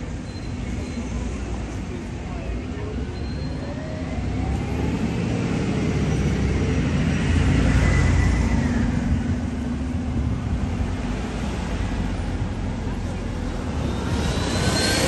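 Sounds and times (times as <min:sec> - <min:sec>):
street traffic passing: 0:00.0 - 0:15.0
vehicle engine rumble: 0:00.0 - 0:15.0.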